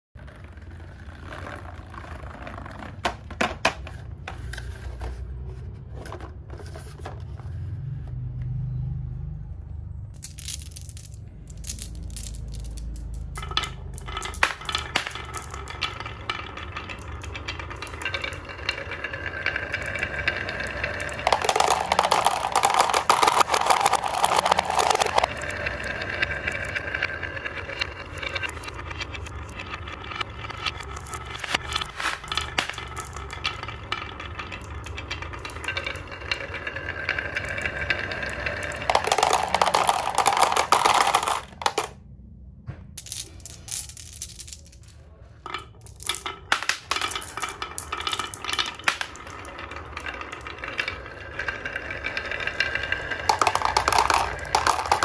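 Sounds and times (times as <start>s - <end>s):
marbles clattering on wooden track: 0.2s - 7.5s, 9.9s - 42.0s, 42.9s - 55.0s.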